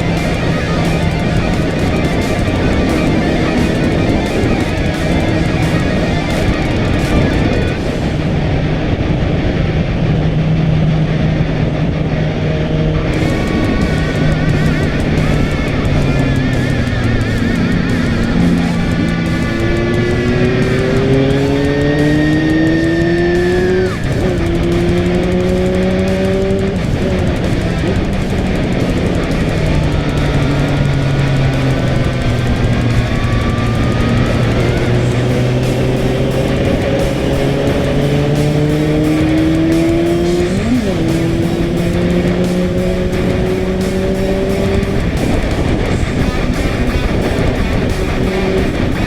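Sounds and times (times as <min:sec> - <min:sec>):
background music: 0:00.0 - 0:08.3, 0:13.1 - 0:49.0
motorcycle engine accelerating: 0:00.0 - 0:49.0.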